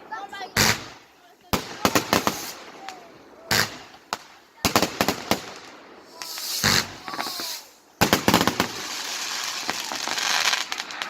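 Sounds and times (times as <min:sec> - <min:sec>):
fireworks cracks: 0:00.0 - 0:11.0
fireworks hissing and crackling: 0:00.0 - 0:11.0
firework bang: 0:01.6 - 0:11.0.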